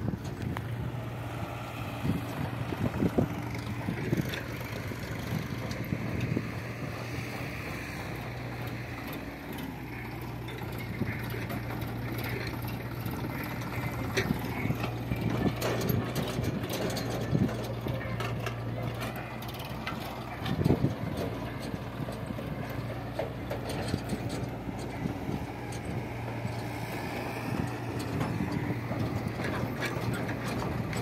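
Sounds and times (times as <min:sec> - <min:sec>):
diesel engines running: 0:00.0 - 0:31.0.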